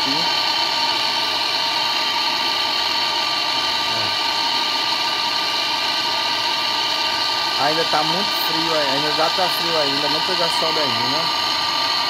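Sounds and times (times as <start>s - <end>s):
gas torch hissing: 0.0s - 12.0s
torch whine: 0.0s - 12.0s.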